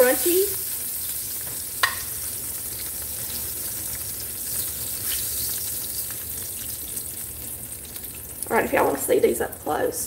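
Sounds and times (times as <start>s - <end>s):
oil sizzling in a skillet: 0.0s - 10.0s.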